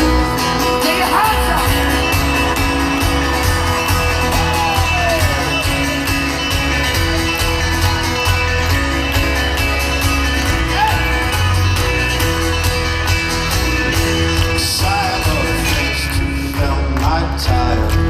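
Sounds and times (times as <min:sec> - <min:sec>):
banjo: 0:00.0 - 0:18.0
live folk-rock band: 0:00.0 - 0:18.0
strummed acoustic guitar: 0:00.0 - 0:18.0.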